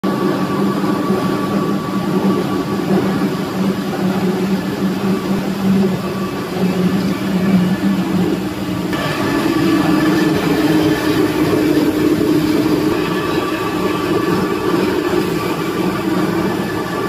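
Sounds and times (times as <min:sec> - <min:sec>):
high machine whine: 0:00.0 - 0:17.0
mill machinery drone: 0:00.0 - 0:17.0.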